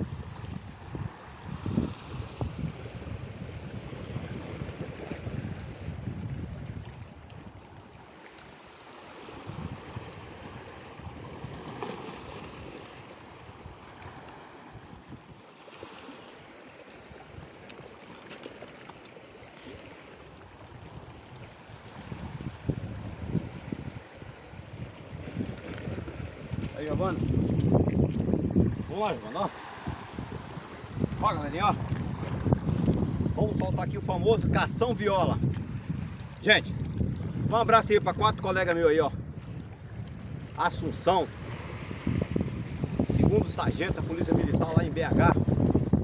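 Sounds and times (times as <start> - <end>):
wind rumble on microphone: 0.0 - 8.0, 9.2 - 15.4, 20.2 - 46.0
sea waves washing against rocks: 0.0 - 39.3, 40.4 - 46.0.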